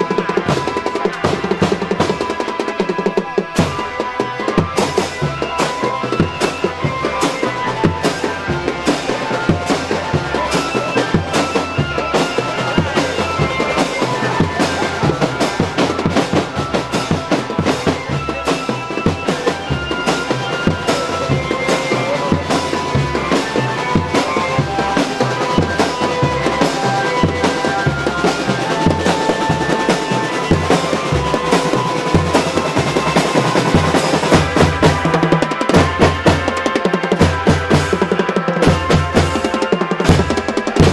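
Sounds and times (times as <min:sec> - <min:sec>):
held melody: 0:00.0 - 0:40.9
snare drums: 0:00.0 - 0:40.9.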